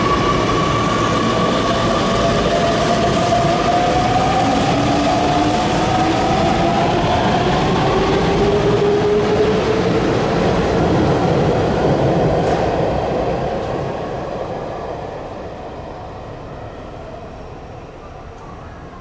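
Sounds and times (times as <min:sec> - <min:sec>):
train wheels rumbling on rail: 0:00.0 - 0:16.4.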